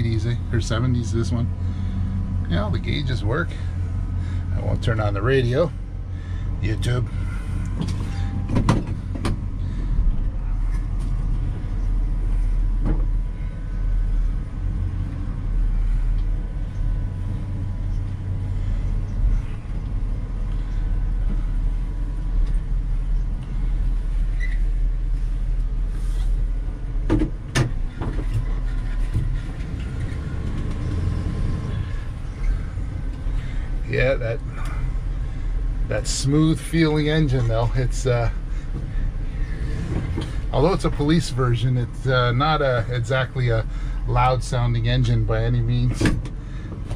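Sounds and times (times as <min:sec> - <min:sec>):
engine low rumble: 0:00.0 - 0:46.9.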